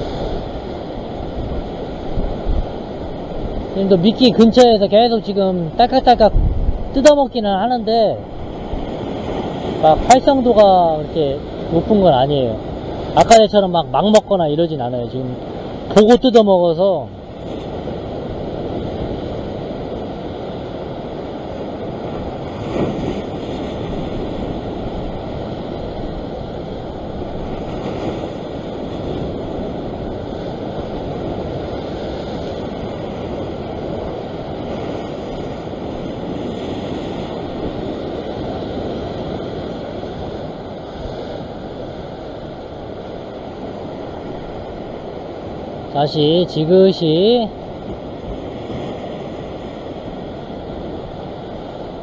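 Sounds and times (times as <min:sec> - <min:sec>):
surf washing against rocks: 0:00.0 - 0:52.0
wind on microphone: 0:00.0 - 0:52.0.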